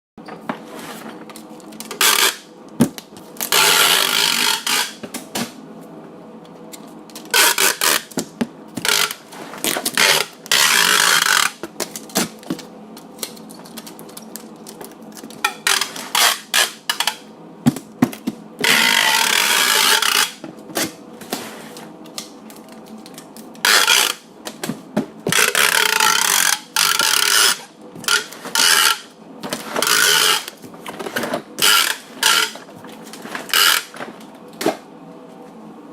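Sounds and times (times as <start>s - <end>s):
packing tape tearing off roll: 1.2s - 5.6s, 6.7s - 17.2s, 17.8s - 24.6s, 25.2s - 34.0s.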